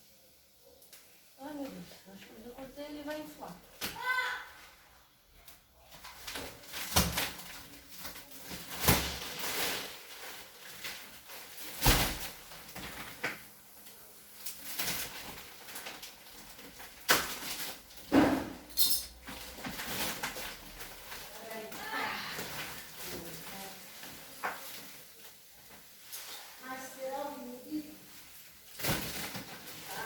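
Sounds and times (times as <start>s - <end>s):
plastic wrapping crinkling: 0.6s - 30.0s.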